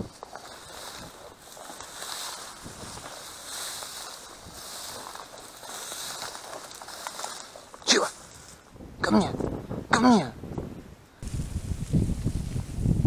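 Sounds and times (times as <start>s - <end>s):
wind on microphone: 0.0s - 3.6s, 4.2s - 7.2s, 8.2s - 13.0s
footsteps through dry grass: 0.0s - 8.7s, 11.2s - 13.0s.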